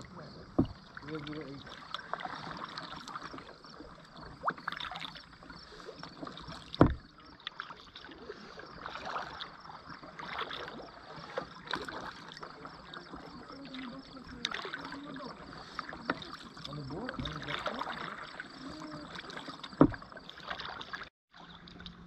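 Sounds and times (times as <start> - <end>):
paddle splashing water: 0.0 - 22.0.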